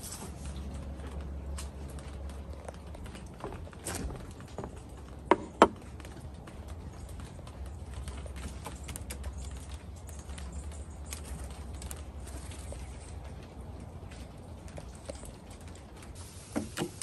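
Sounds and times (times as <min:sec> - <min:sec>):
rain drips pattering: 0:00.0 - 0:17.0.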